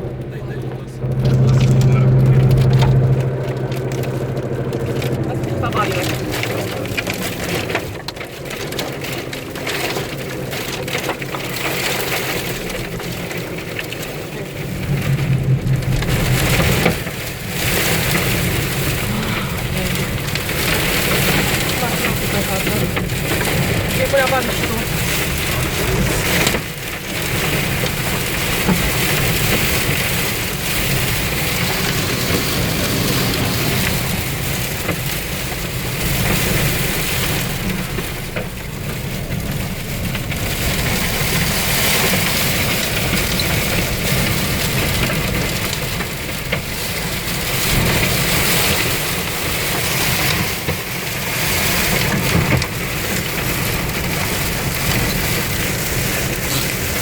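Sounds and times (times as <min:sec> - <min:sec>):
wind-driven rain beating on car: 0:00.0 - 0:57.0.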